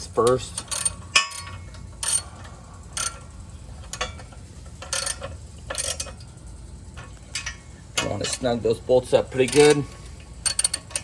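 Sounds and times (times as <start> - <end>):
ratchet clicking: 0.0 - 11.0.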